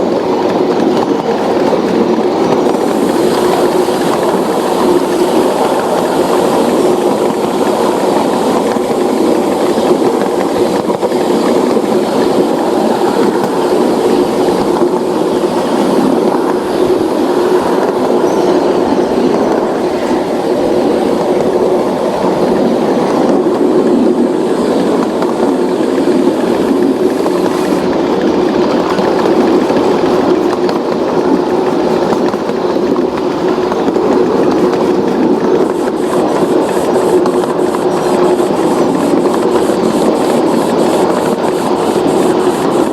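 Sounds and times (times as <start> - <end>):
constant hum: 0.0 - 42.9
train wheels rolling on track: 0.0 - 42.9.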